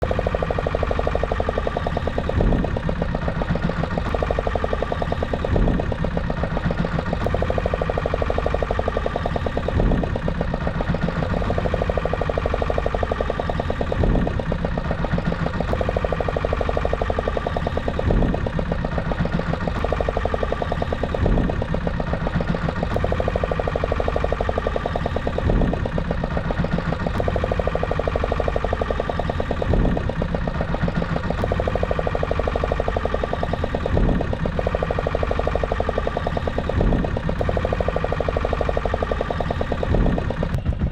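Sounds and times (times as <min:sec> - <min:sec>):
boat engine pulsing: 0:00.0 - 0:40.9.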